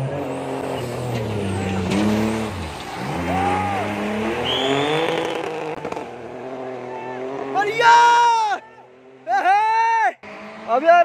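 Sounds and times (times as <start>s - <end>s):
rally car engine revving: 0.0s - 9.3s, 10.1s - 11.0s.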